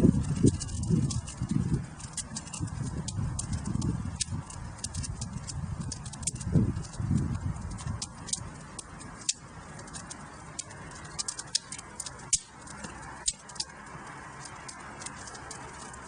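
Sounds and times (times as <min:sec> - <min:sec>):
low rush of flames: 0:00.0 - 0:16.0
wood fire crackling and popping: 0:00.0 - 0:16.0.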